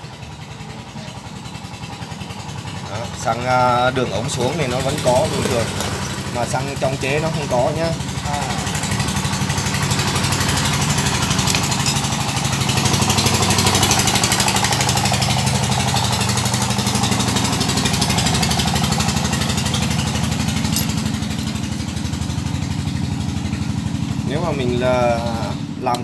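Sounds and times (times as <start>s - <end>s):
small engine idling: 0.0s - 26.0s.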